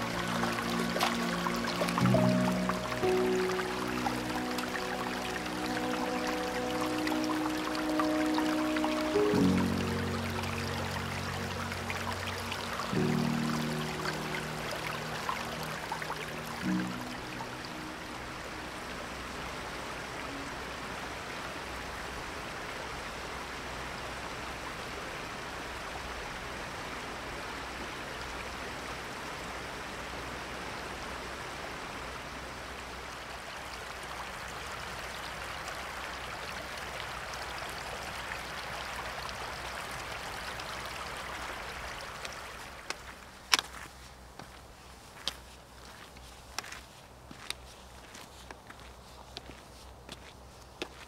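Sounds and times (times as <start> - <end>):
stream running over stones: 0.0 - 51.0.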